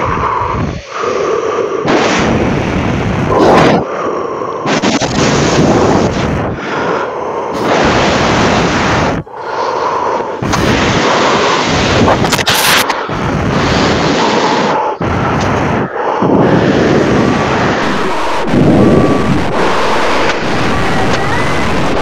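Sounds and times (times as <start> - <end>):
harsh distorted noise: 0.0 - 4.0, 4.6 - 6.9, 7.6 - 9.4, 10.0 - 22.0.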